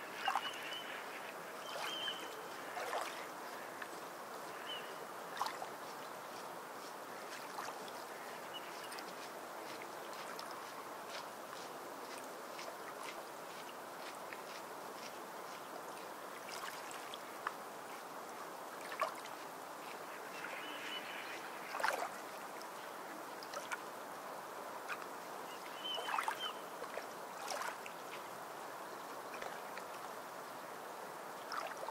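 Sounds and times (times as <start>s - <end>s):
background hiss: 0.0s - 31.9s.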